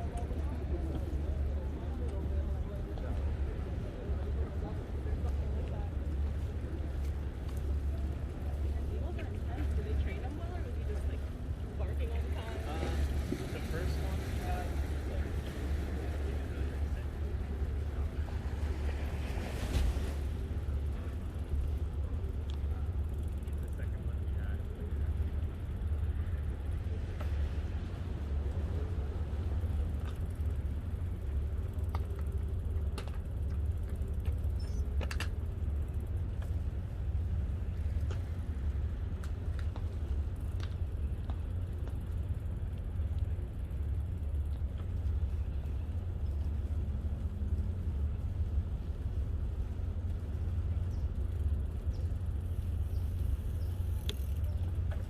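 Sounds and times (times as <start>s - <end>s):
bicycle rolling on pavement: 5.1s - 24.4s, 28.8s - 55.0s.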